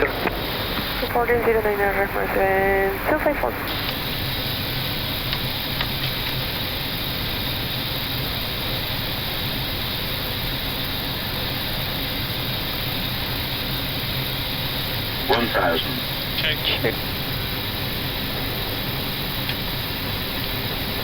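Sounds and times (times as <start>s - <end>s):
constant low hum: 0.0s - 21.0s.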